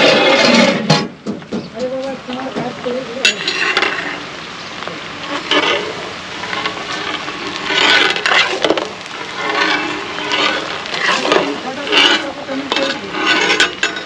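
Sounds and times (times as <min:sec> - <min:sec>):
metal spatula scraping pan: 0:00.0 - 0:01.2, 0:02.8 - 0:14.0
vegetables sizzling in hot oil: 0:02.0 - 0:14.0.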